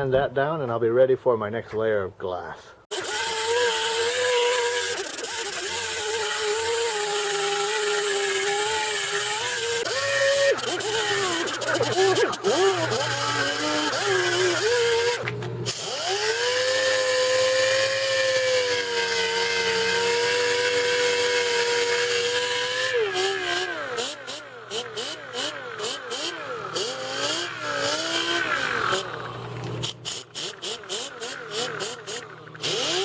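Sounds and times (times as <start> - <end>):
power tool motor whining: 2.9 - 33.0.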